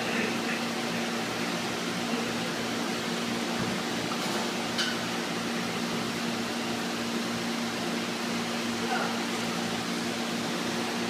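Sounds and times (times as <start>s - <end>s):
machinery humming and hissing: 0.0s - 11.0s.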